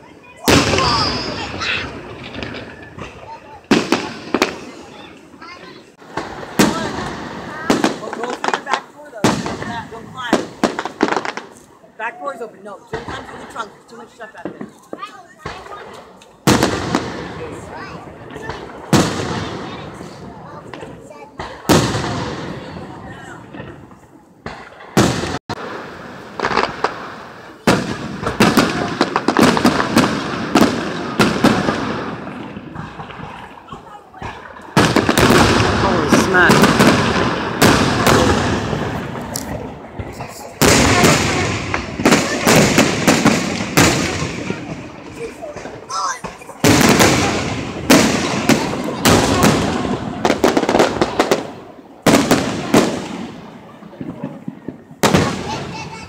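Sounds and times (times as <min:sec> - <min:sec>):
fireworks bangs: 0:00.0 - 0:56.0
fireworks crackle: 0:00.0 - 0:56.0.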